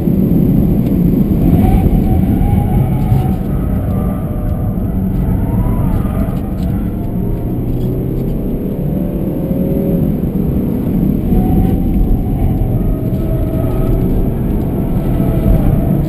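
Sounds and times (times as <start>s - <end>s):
car engine accelerating: 0.0s - 16.0s
road and tyre noise: 0.0s - 16.0s.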